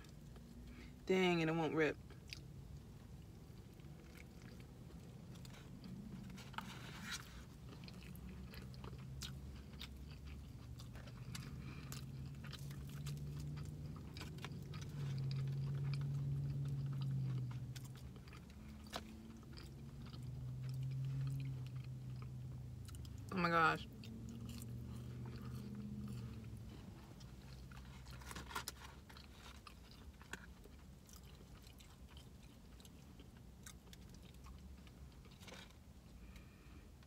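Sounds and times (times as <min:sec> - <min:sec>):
low steady hum: 0:00.0 - 0:37.0
person chewing food: 0:02.1 - 0:36.6.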